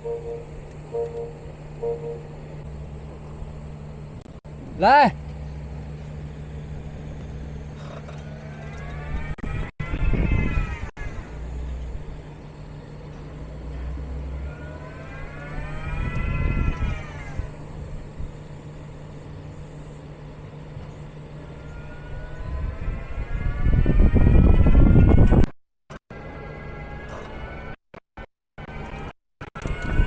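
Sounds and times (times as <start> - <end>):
steady low hum: 0.0 - 25.1
electric motor whine: 0.0 - 25.5
rumble of car moving: 0.0 - 25.5.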